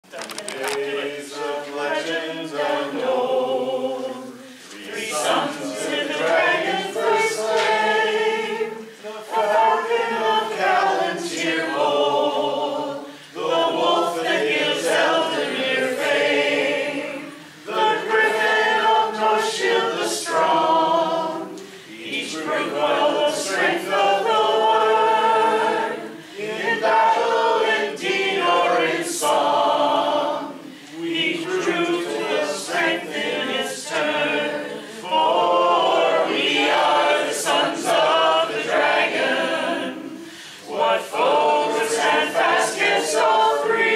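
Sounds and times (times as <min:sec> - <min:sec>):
group singing a cappella: 0:00.0 - 0:43.9.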